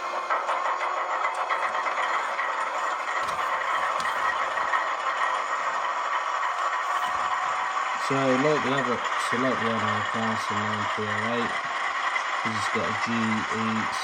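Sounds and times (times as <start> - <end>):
diesel engine sound from small speaker: 0.0 - 14.0.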